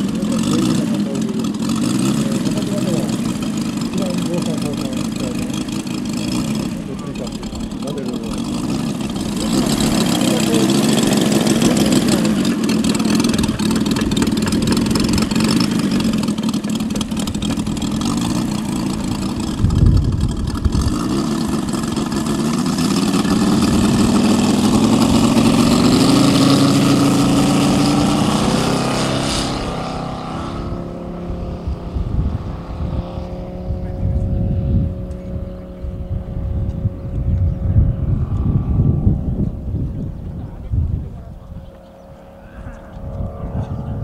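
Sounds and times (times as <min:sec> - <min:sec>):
model plane engine: 0:00.0 - 0:44.0.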